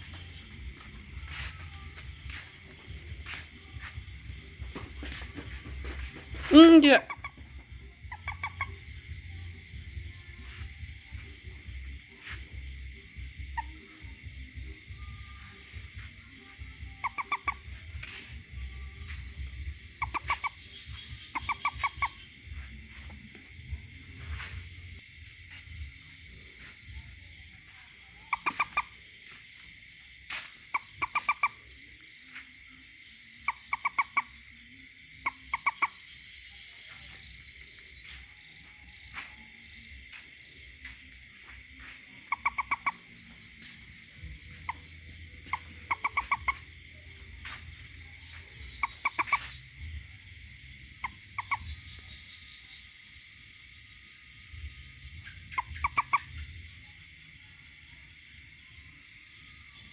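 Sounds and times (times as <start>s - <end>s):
toad calling in pulsed bursts: 0.0s - 59.9s.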